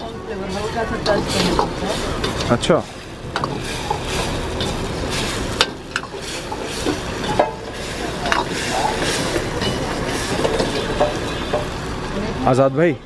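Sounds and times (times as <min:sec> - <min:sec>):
food sizzling: 0:00.0 - 0:12.7
metal ladle scraping a wok: 0:00.4 - 0:12.0.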